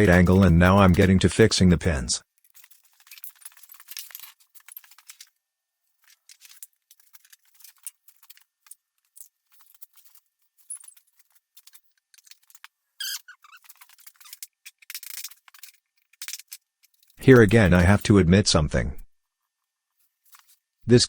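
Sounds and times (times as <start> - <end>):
small parts clicking and rattling: 0.0 - 18.0, 19.2 - 20.8.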